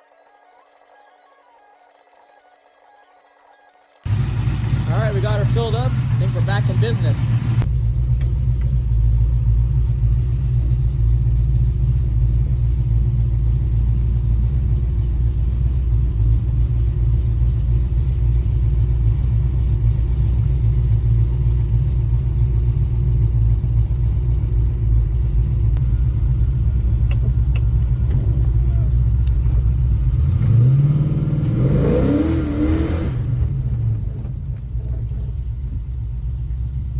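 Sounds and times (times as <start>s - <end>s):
car engine idling: 4.0s - 36.9s.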